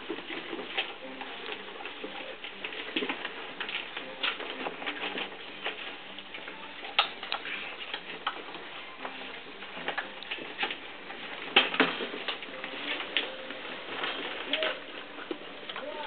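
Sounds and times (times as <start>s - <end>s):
puppies scuffling on hard floor: 0.0s - 16.0s.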